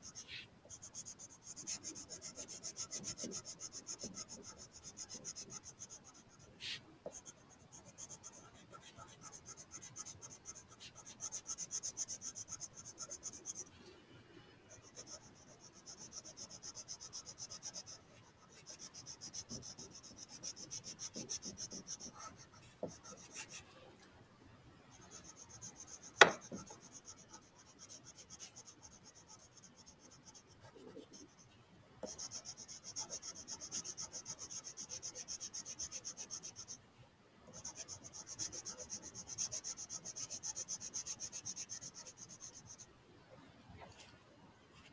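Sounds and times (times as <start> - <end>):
crayon scratching on paper: 0.0 - 13.7, 14.7 - 23.6, 24.9 - 31.4, 32.0 - 36.8, 37.5 - 42.8.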